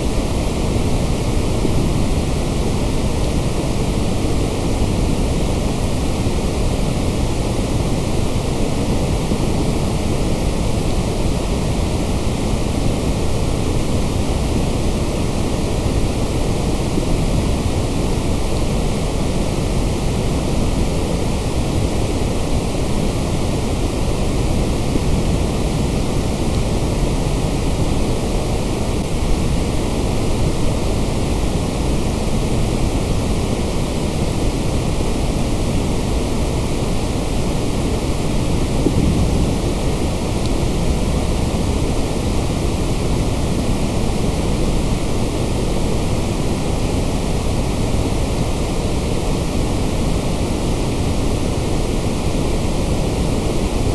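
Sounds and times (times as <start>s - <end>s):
white noise: 0.0s - 53.9s.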